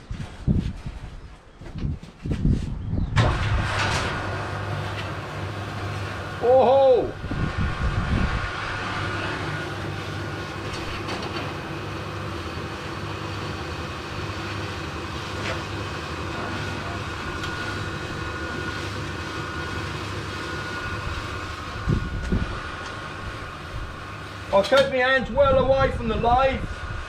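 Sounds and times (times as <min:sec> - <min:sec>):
lathe running: 0:03.4 - 0:25.1.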